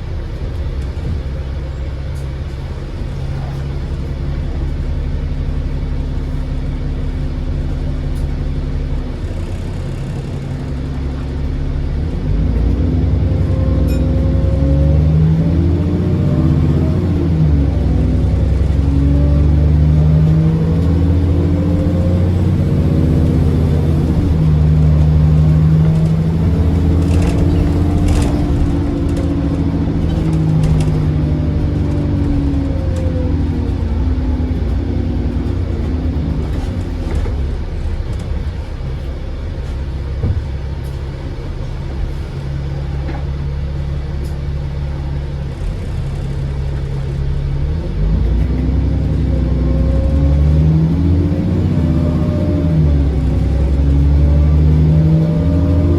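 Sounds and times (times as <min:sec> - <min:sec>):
bus diesel engine accelerating: 0:00.0 - 0:55.9.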